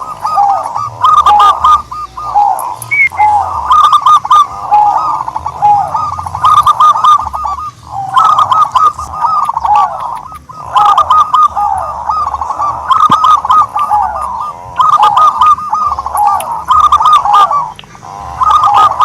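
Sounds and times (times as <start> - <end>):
doves cooing: 0.0 - 19.0.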